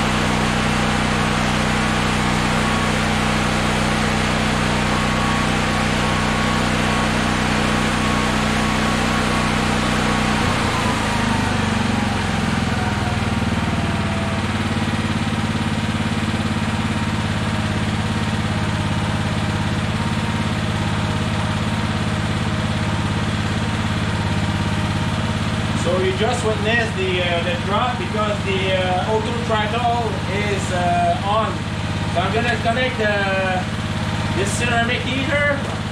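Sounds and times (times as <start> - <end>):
generator engine running: 0.0 - 35.9.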